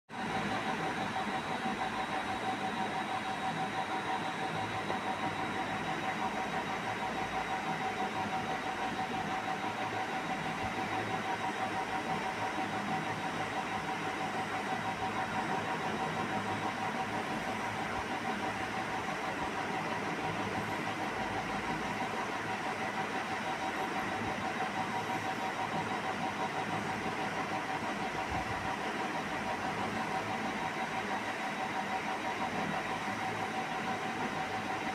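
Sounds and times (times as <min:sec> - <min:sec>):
machine hum and whir: 0:00.1 - 0:34.9.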